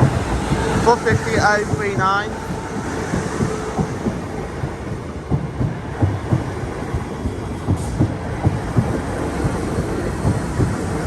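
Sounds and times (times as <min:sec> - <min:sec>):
low thumps: 0:00.0 - 0:11.0
train wheels rumbling on rails: 0:00.0 - 0:11.0.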